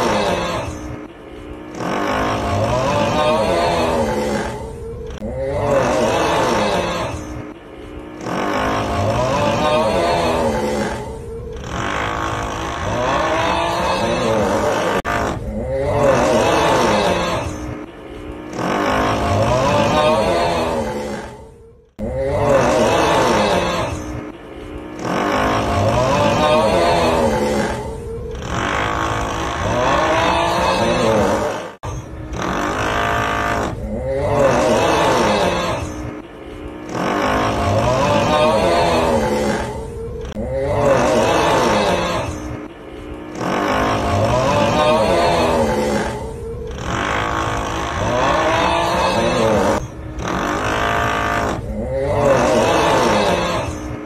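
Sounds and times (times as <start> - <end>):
steady drilling noise: 0.0 - 15.5, 22.6 - 53.9
wavering snoring groan: 0.0 - 54.0.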